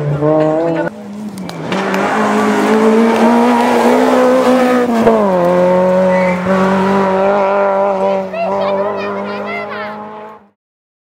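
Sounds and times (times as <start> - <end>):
rally car engine at high revs: 0.0 - 10.6.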